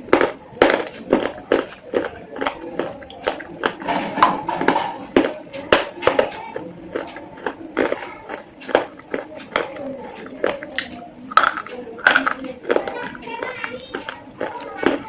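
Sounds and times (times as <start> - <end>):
chewing slate pencils crunching: 0.0 - 15.0.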